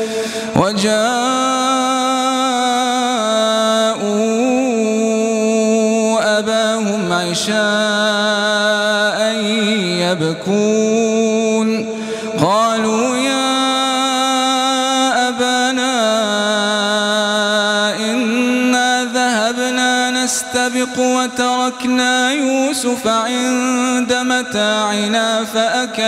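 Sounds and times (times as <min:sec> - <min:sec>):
man reciting melodically: 0:00.0 - 0:26.0.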